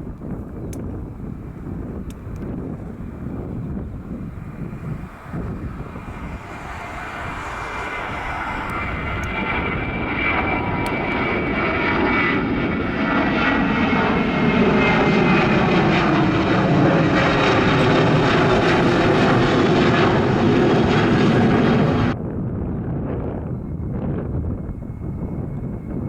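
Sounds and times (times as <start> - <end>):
jet airliner passing: 0.0 - 26.0
wind noise: 0.0 - 26.0.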